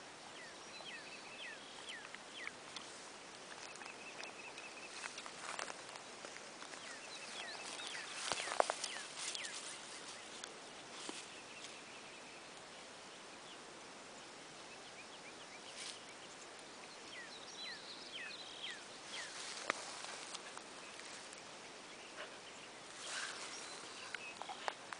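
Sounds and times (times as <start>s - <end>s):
rustling in grass: 0.9s - 13.0s, 14.9s - 24.9s.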